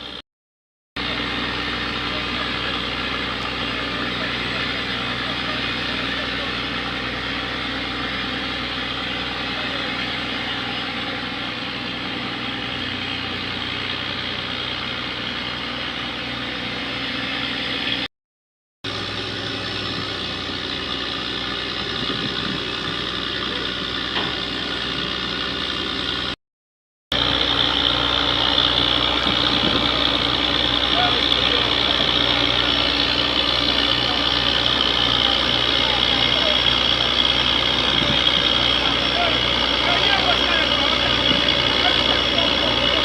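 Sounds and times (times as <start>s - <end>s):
vehicle engine droning: 1.0s - 18.1s, 18.8s - 26.4s, 27.1s - 43.0s.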